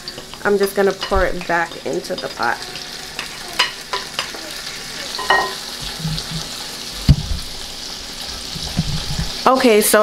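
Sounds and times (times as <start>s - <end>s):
ribs sizzling in oil: 0.0s - 10.0s.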